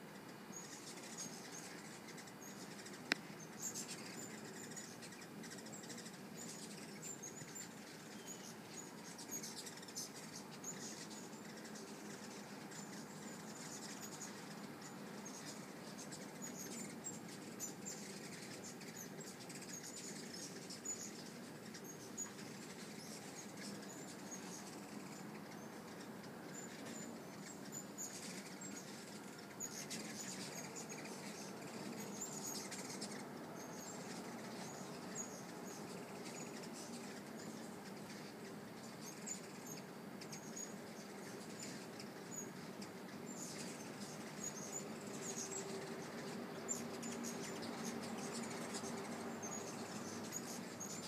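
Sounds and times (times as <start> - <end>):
faint outdoor hiss: 0.0 - 51.0
hummingbirds chirping: 0.0 - 51.0.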